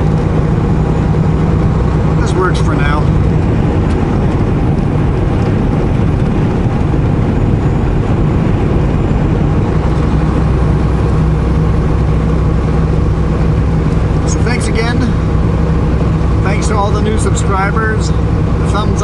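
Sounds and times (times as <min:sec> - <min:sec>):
road noise: 0:00.0 - 0:19.0
truck engine drone in cab: 0:00.0 - 0:19.0.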